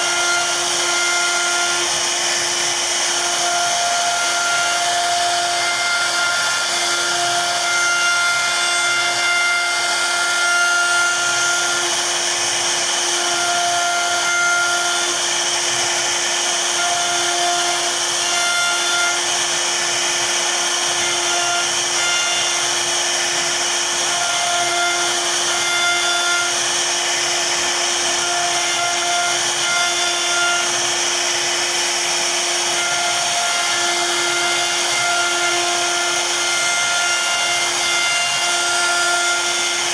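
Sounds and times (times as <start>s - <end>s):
router carving wood: 0.0s - 39.9s.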